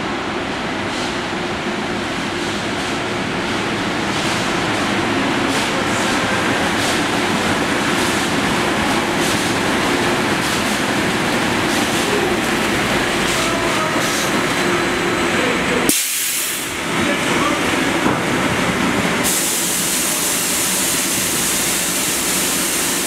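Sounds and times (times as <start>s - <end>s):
rumble of transit traffic: 0.0s - 23.0s.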